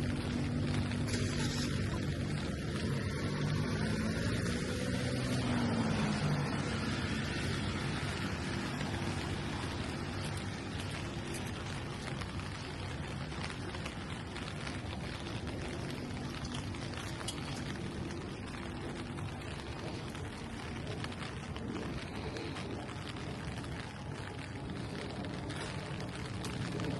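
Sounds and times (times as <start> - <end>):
rain on hard surfaces: 0.0 - 26.9.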